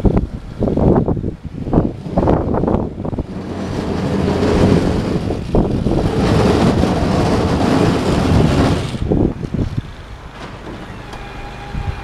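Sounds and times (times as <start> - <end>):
garden tractor pushing snow: 1.6 - 12.0.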